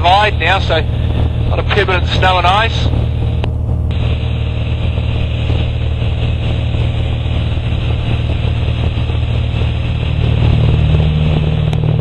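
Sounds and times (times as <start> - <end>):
airflow noise: 0.0 - 12.0
light aircraft engine drone: 0.0 - 12.0.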